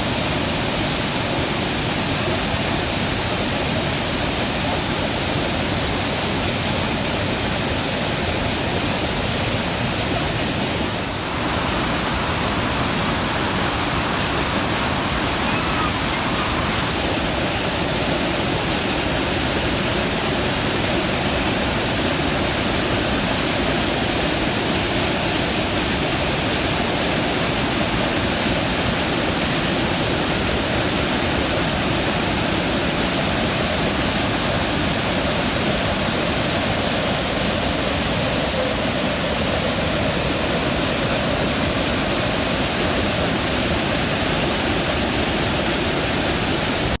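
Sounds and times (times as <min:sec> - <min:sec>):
waterfall roaring: 0:00.0 - 0:47.0.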